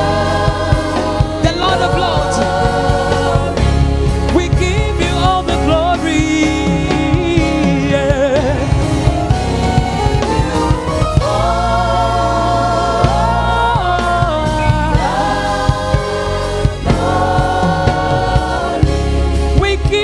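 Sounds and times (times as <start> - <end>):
drum hits: 0.0 - 20.0
gospel choir singing: 0.0 - 20.0.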